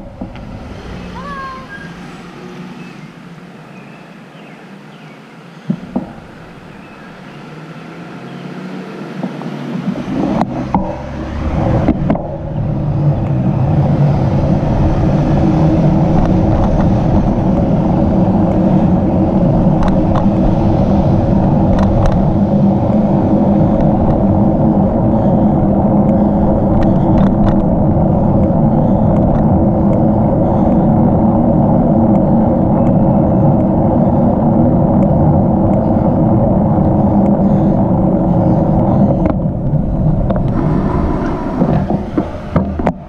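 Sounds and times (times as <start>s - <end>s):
wind noise: 0.0s - 2.2s, 8.7s - 43.0s
bicycle tyres on pavement: 0.0s - 43.0s.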